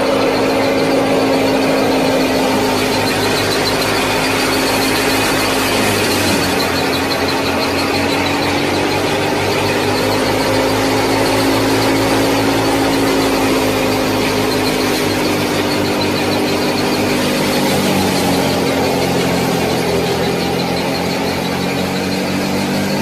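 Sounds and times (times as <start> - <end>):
small motor whining: 0.0 - 23.0.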